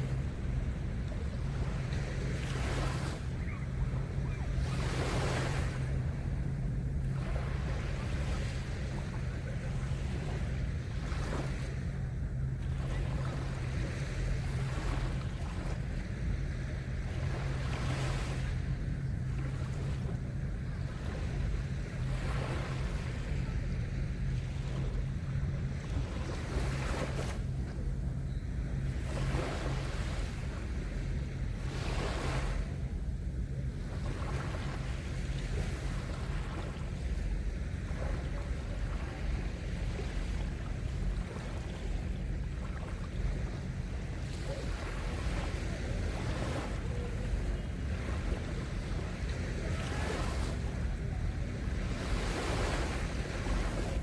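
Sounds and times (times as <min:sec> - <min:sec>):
small waves breaking on sand: 0:00.0 - 0:27.5, 0:28.8 - 0:32.8, 0:33.7 - 0:54.0
steady low hum: 0:00.0 - 0:54.0.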